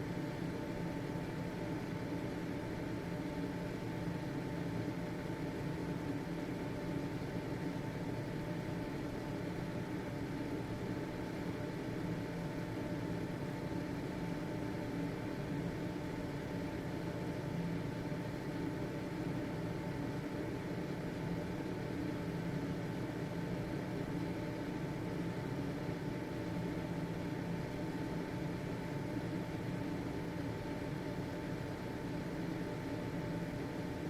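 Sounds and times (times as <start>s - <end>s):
ventilation fan running: 0.0s - 34.0s.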